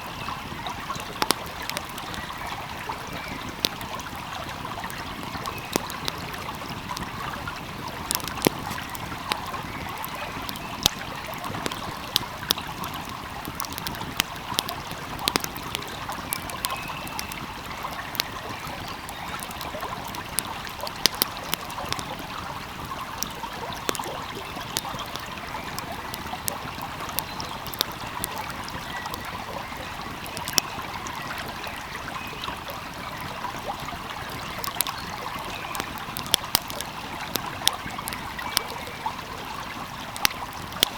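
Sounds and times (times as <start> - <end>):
stream flowing: 0.0 - 40.9
wood fire crackling: 0.0 - 40.9.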